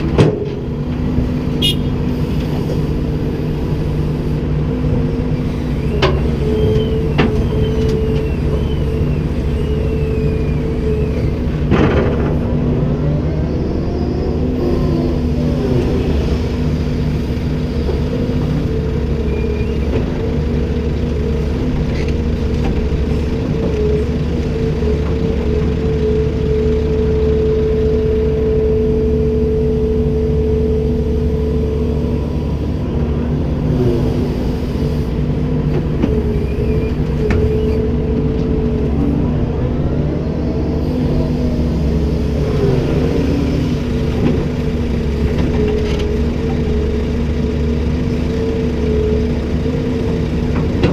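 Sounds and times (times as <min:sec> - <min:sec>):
excavator running: 0:00.0 - 0:50.9.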